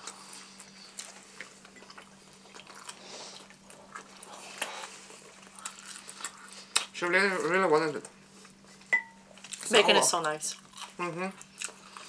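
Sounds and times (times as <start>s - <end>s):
people chewing pizza: 0.0s - 12.0s.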